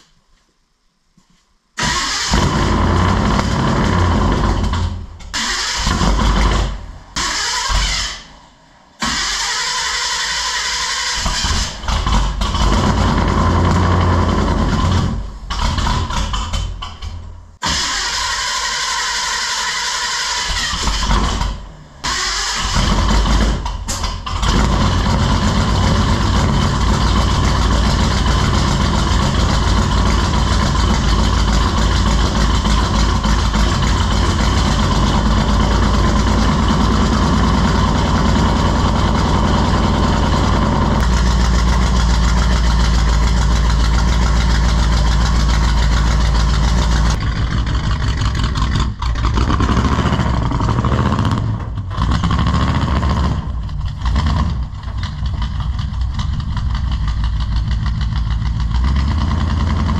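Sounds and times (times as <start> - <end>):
car engine idling: 1.8 - 59.9.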